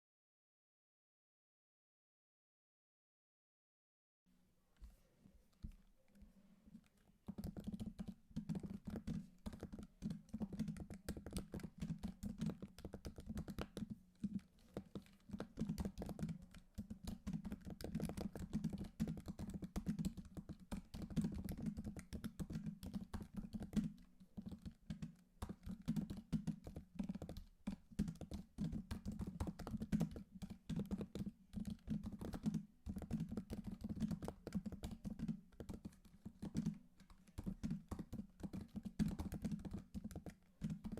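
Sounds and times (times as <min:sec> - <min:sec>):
typing on computer keyboard: 0:07.2 - 0:40.9.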